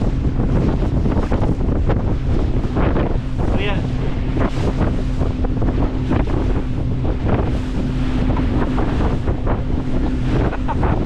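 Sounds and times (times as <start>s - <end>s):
boat engine humming: 0.0s - 11.0s
sea washing along hull: 0.0s - 11.0s
wind buffeting microphone: 0.0s - 11.0s.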